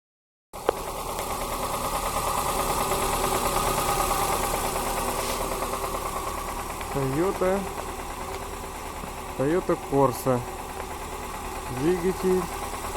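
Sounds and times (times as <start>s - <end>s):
engine idling with knock: 0.6s - 12.9s.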